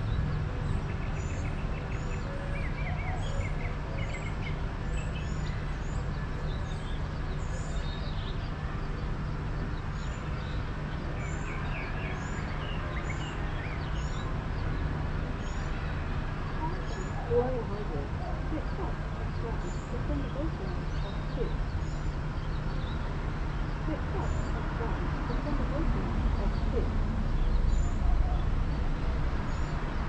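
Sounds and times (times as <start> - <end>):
small birds chirping: 0.0 - 30.0
street background rumble: 0.0 - 30.0.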